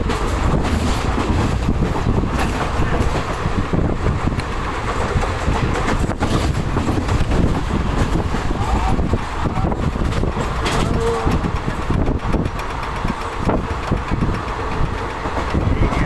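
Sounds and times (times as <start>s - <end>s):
train rumbling on track: 0.0s - 16.0s
wheels and carriage rattling: 0.0s - 16.0s.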